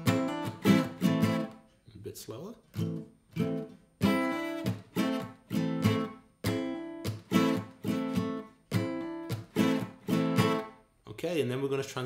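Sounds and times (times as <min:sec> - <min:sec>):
acoustic guitar strumming: 0:00.0 - 0:01.6, 0:02.7 - 0:10.8.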